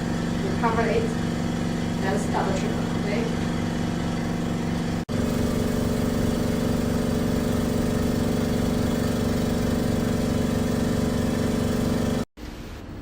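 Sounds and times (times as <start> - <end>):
air pump humming: 0.0 - 12.9.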